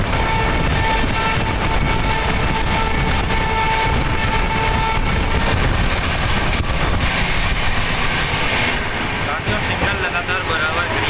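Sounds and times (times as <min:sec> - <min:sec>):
train wheel-on-rail rumble: 0:00.0 - 0:11.0
wind buffeting microphone: 0:00.0 - 0:11.0.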